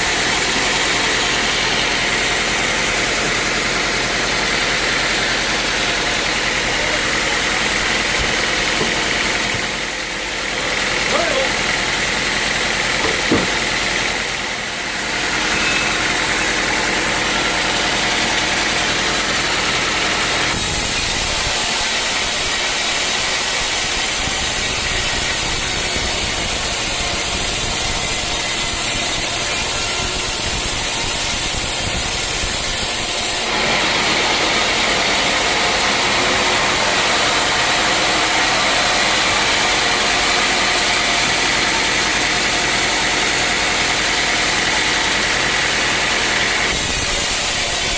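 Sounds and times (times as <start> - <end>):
sawmill sawing logs: 0.0 - 47.9.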